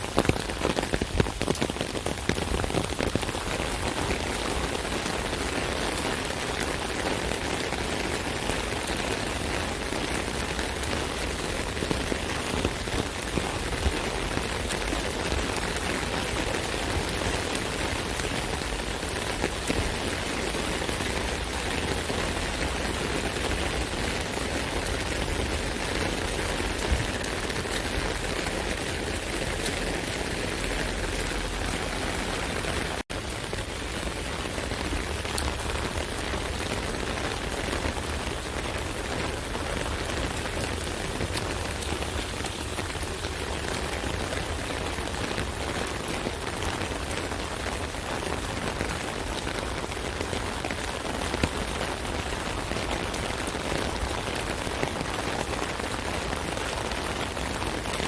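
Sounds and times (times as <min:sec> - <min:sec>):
rain drumming on an umbrella: 0:00.0 - 0:58.0.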